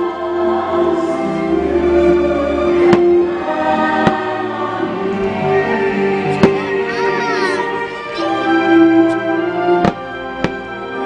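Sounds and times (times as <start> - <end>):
choir singing long notes: 0.0 - 11.0
orchestral music: 0.0 - 11.0.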